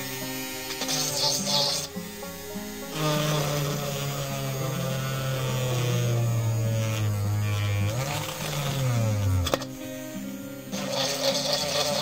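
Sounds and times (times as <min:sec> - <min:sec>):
mini drill whining: 0:00.0 - 0:12.0.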